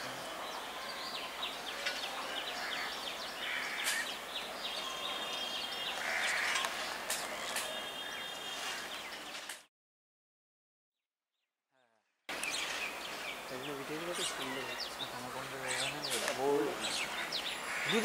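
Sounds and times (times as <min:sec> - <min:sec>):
small birds chirping: 0:00.0 - 0:09.6, 0:12.3 - 0:18.0.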